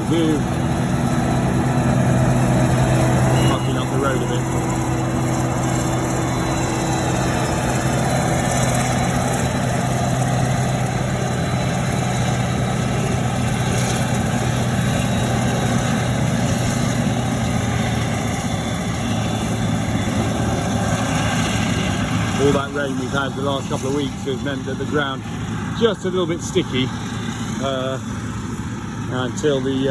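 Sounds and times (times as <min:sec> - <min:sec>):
vehicle engine running: 0:00.0 - 0:29.9.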